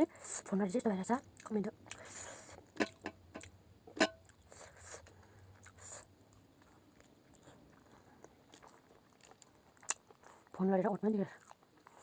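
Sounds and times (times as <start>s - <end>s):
person chewing food: 1.3s - 10.6s, 11.3s - 12.0s.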